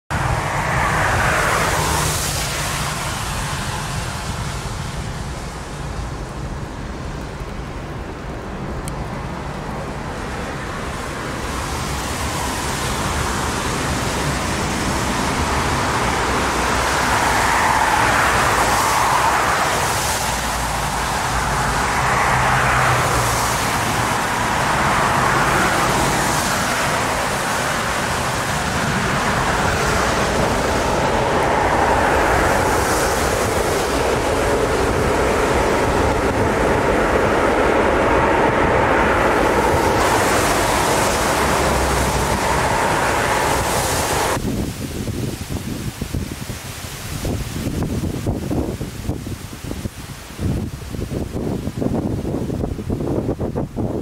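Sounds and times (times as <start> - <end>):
jet engines roaring: 0.1 - 48.8.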